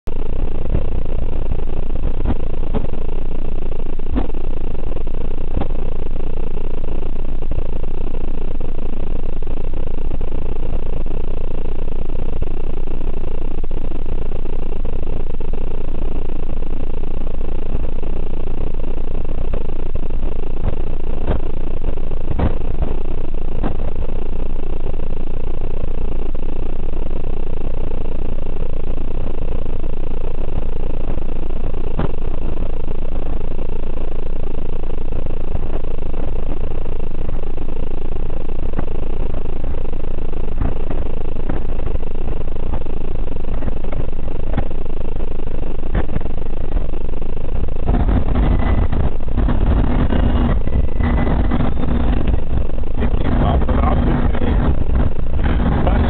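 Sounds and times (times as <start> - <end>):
road and engine noise in van: 0.0 - 56.0.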